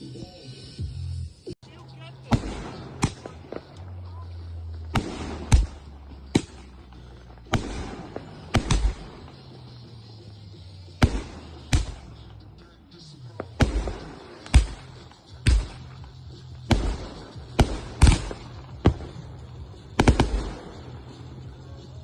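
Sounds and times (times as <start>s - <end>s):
fireworks bangs: 1.6s - 21.6s.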